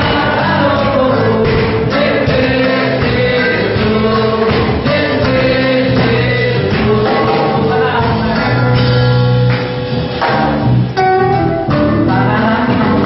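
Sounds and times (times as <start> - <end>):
person singing: 0.0 - 9.0, 11.3 - 13.0
acoustic guitars: 0.0 - 13.0
drum kit: 0.0 - 13.0.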